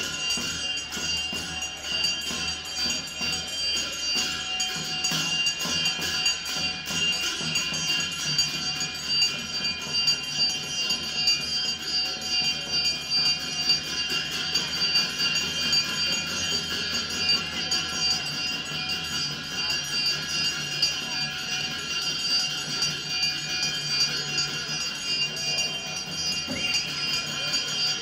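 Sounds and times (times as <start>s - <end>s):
jingling bells: 0.0s - 28.0s.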